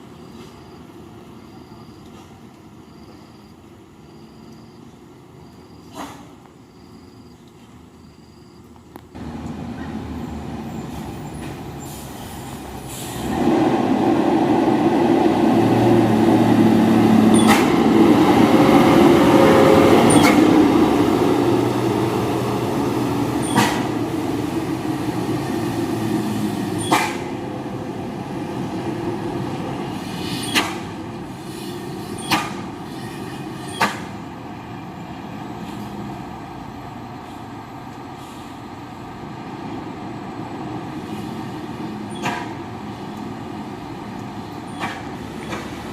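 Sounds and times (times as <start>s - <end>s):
dump truck diesel engines: 0.0s - 45.9s.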